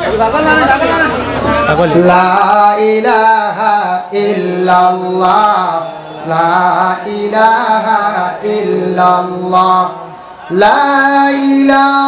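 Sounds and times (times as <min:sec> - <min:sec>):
man chanting into a microphone: 0:01.8 - 0:12.0.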